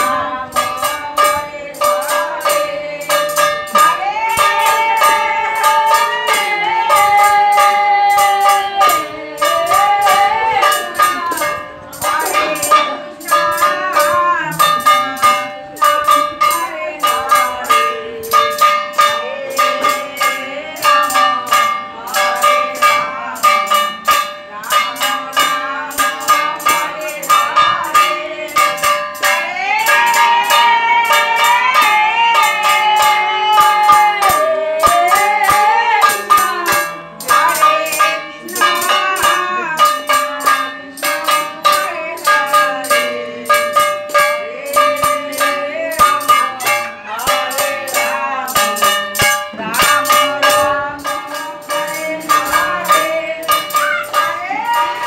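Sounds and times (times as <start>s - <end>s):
jingling hand percussion: 0.0s - 55.0s
person chanting: 0.0s - 55.0s.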